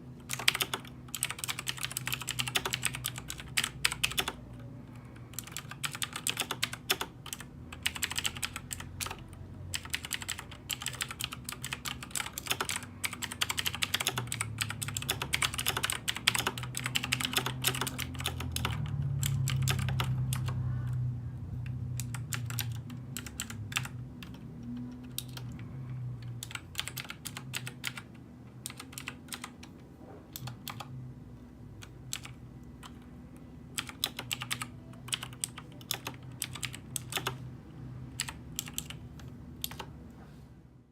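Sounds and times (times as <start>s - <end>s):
typing on a computer keyboard: 0.2s - 21.0s, 21.6s - 30.9s, 31.8s - 33.1s, 33.7s - 37.4s, 38.1s - 39.9s.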